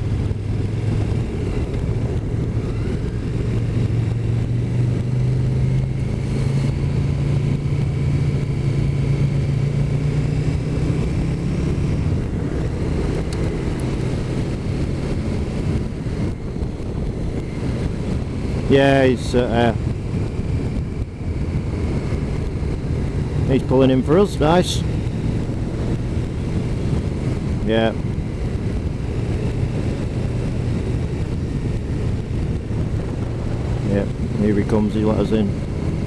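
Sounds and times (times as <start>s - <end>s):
motorcycle engine accelerating: 0.0s - 36.0s
road rumble: 0.0s - 36.0s
wind: 0.0s - 36.0s.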